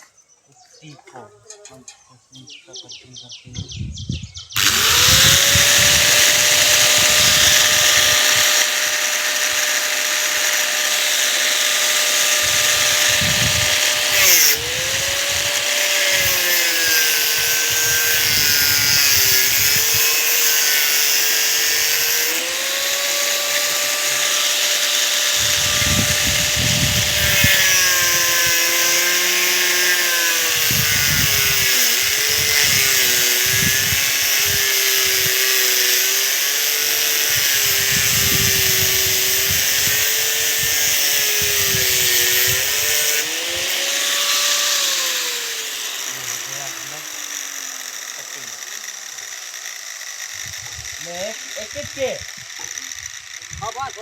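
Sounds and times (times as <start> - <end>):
power cutter cutting steel bar: 4.6 - 54.0.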